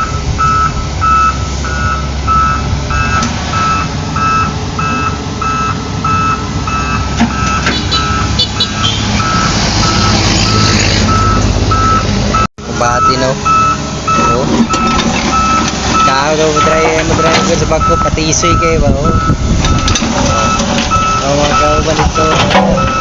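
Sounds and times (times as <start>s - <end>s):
diesel engine low rumble: 0.0s - 23.0s
reversing alarm beeping: 0.0s - 23.0s.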